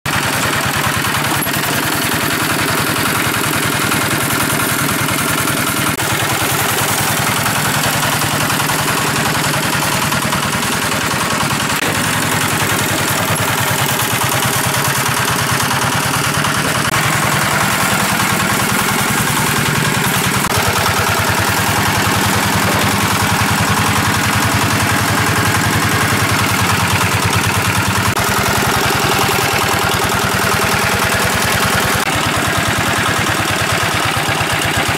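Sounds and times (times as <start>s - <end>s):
water pump engine running: 0.1s - 34.9s.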